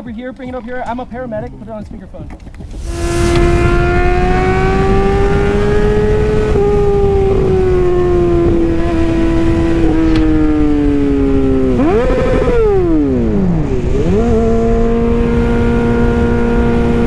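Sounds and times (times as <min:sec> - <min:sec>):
motorcycle engine revving: 0:02.6 - 0:17.0.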